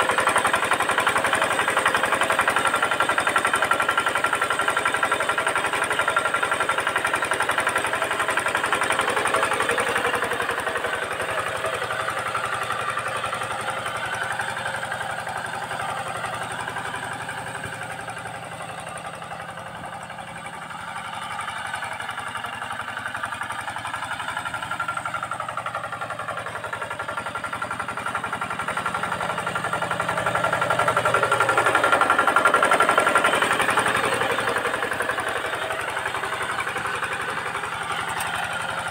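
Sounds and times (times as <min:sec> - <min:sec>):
diesel tractor engine chugging: 0:00.0 - 0:38.9.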